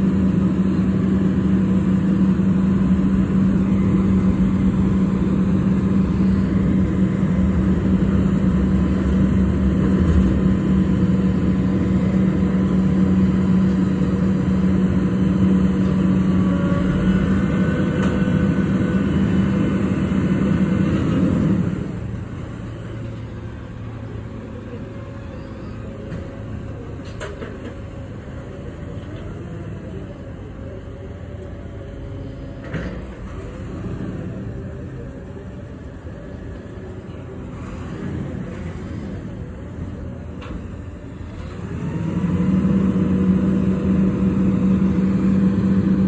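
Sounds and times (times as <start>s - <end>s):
garbage truck engine running: 0.0s - 46.0s.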